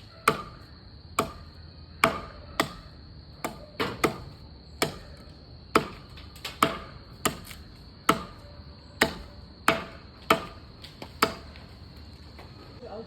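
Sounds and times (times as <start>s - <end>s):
blade chopping into wood: 0.2s - 8.4s, 9.0s - 11.6s.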